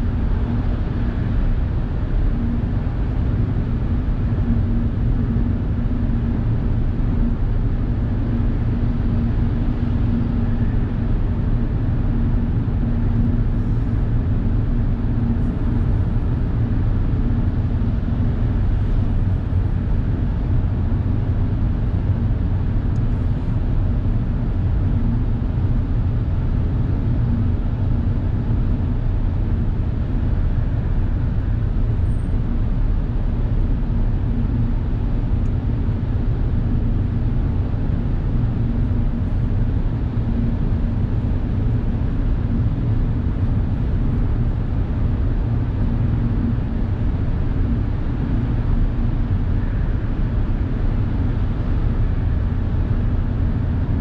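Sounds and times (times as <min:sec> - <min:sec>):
car road and engine noise: 0:00.0 - 0:50.2.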